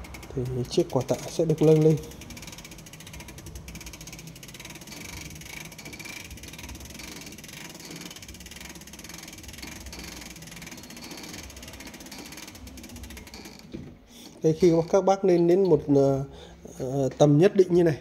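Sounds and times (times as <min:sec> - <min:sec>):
winding ratchet clicking: 0:00.0 - 0:16.0.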